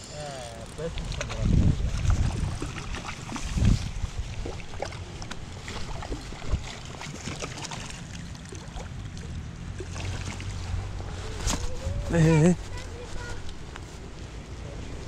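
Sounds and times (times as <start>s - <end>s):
wind rumbling on microphone: 0.7s - 6.9s, 8.2s - 15.0s.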